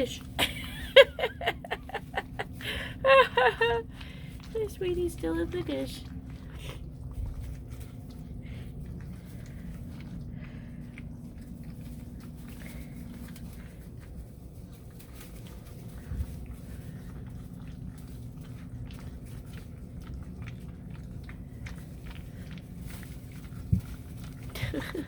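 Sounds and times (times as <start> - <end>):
puppies chewing and lapping: 0.0 - 25.0
steady low hum: 0.0 - 25.0.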